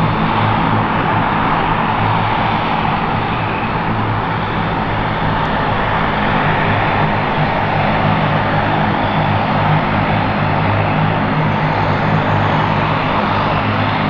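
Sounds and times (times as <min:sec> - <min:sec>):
turboprop aircraft taxiing: 0:00.0 - 0:14.0.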